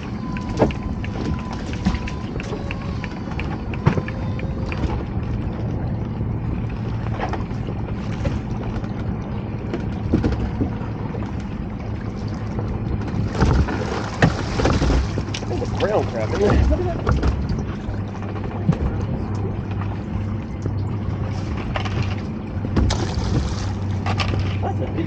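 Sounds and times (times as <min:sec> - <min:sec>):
boat engine running: 0:00.0 - 0:25.0
wind noise on microphone: 0:00.0 - 0:25.0.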